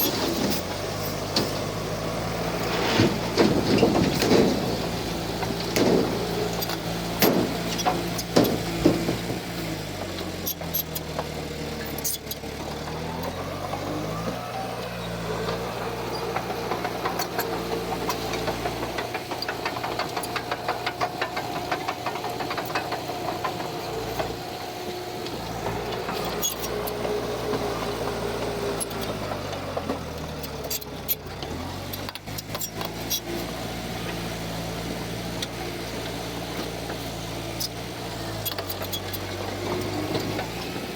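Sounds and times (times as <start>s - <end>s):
heavy diesel engine under load: 0.0s - 40.9s.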